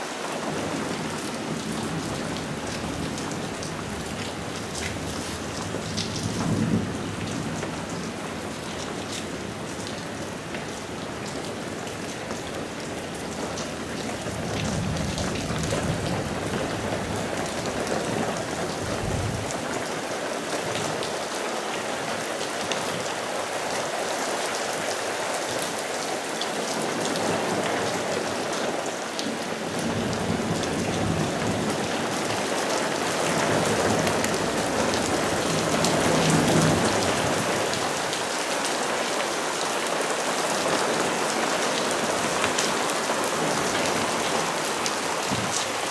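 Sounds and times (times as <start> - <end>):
rain splashing on water and pavement: 0.0 - 45.9.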